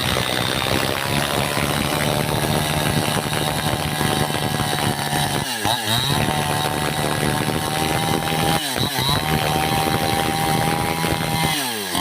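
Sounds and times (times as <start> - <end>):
chainsaw running at high revs: 0.0 - 12.0.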